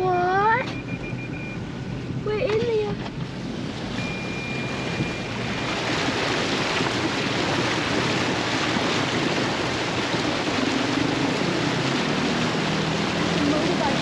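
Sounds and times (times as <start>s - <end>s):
water rushing and splashing: 2.7s - 14.0s.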